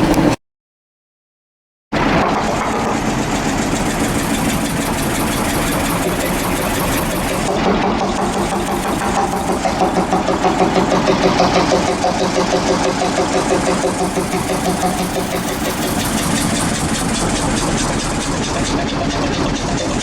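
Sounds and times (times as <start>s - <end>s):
locomotive engine pulsing: 0.0s - 0.4s, 2.0s - 20.0s.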